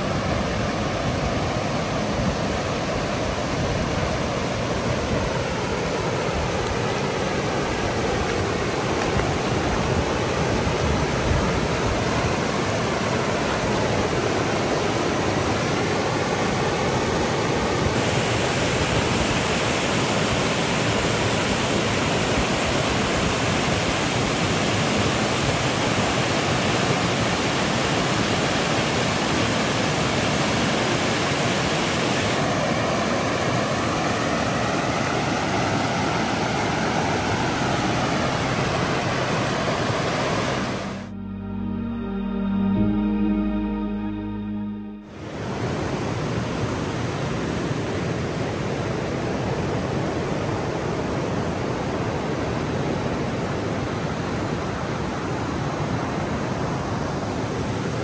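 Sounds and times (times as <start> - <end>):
stream water rushing: 0.0 - 41.2, 45.1 - 58.0.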